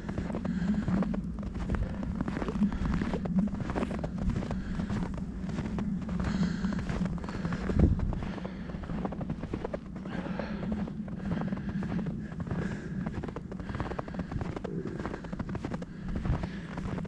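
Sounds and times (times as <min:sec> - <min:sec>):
footsteps crunching through snow: 0:00.0 - 0:17.0.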